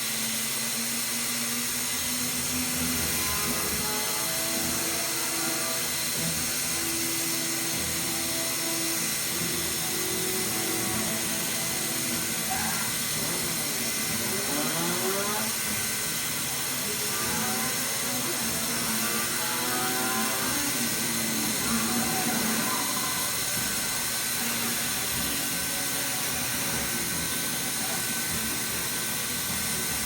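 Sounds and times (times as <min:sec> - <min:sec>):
hot-air welding gun hissing: 0:00.0 - 0:30.0
background music: 0:02.4 - 0:30.0.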